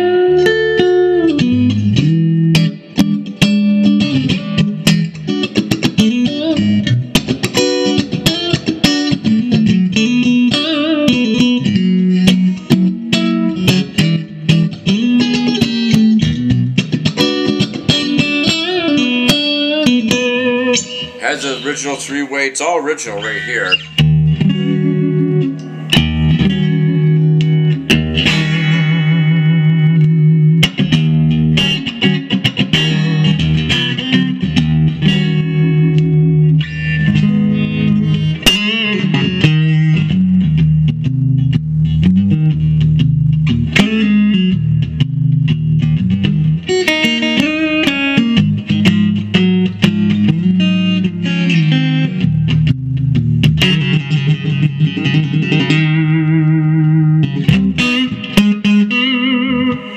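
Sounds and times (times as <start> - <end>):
electric guitar with vibrato: 0.0 - 59.9.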